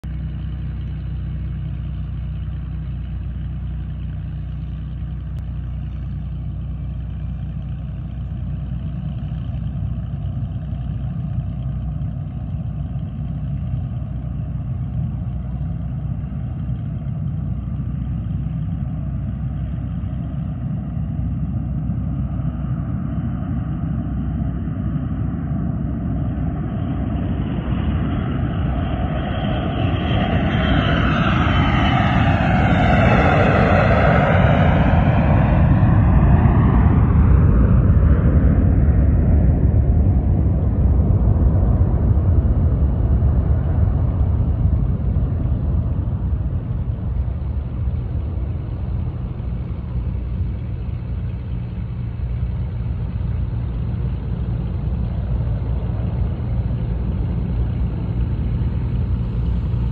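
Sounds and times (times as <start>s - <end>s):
jet engines on takeoff: 0.0s - 59.9s.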